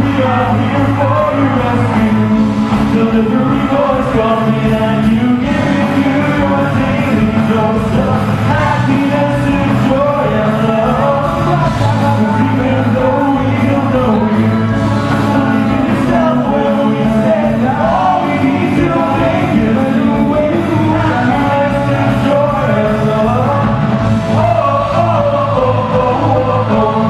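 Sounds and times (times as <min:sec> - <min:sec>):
live pop-rock band with singing: 0:00.0 - 0:27.0.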